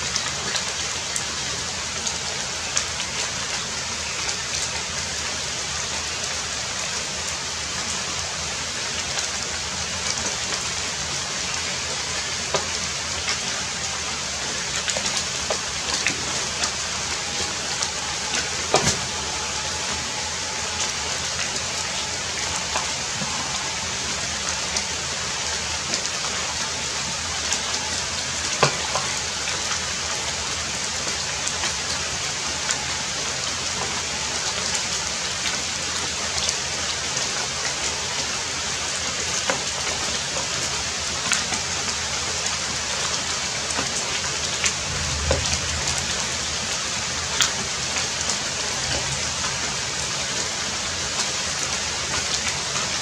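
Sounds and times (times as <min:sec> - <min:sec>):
heavy rain falling: 0:00.0 - 0:53.0
sharp raindrops striking: 0:00.0 - 0:53.0.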